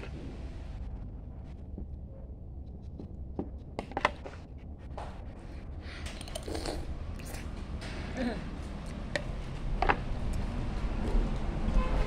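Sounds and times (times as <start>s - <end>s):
low steady hum: 0.0s - 11.9s.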